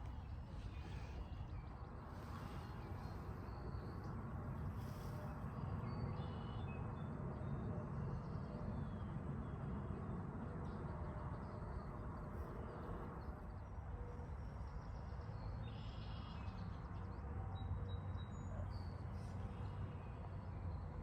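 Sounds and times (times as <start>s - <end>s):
faint songbird chirps: 0.0s - 9.6s, 10.7s - 21.0s.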